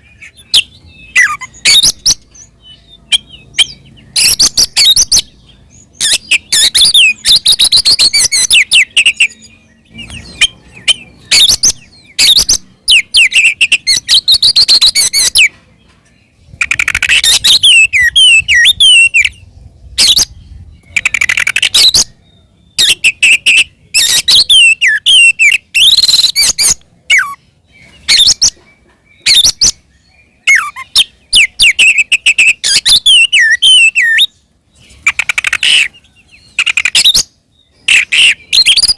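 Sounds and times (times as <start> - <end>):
magpie-robin song: 0.0 - 38.9.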